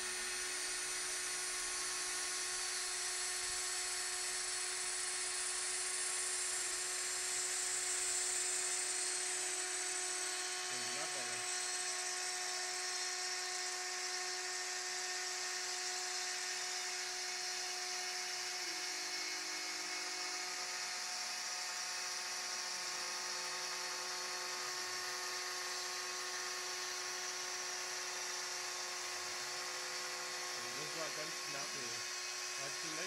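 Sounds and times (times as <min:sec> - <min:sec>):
router spindle milling wood: 0:00.0 - 0:33.0.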